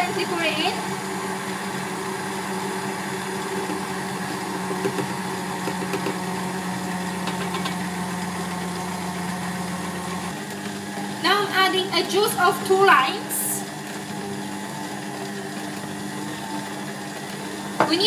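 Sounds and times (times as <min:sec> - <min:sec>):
stand mixer motor humming: 0:00.0 - 0:18.0.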